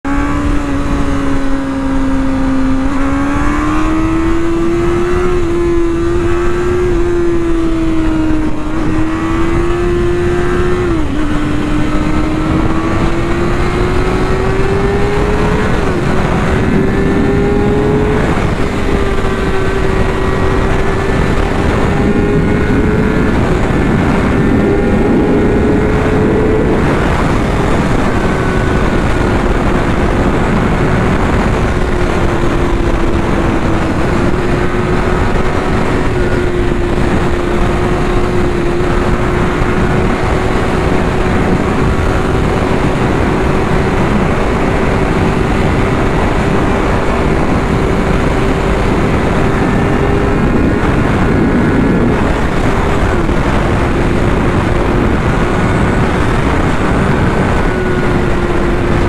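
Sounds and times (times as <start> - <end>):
heavy wind noise: 0.0 - 59.0
motorcycle engine at speed: 0.0 - 59.0.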